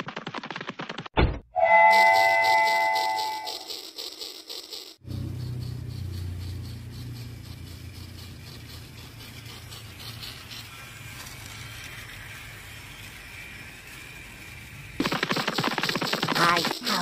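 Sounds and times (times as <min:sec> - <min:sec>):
toy train motor hum: 0:02.0 - 0:17.0
wheels rattling on plastic track: 0:02.3 - 0:05.0, 0:05.6 - 0:17.0.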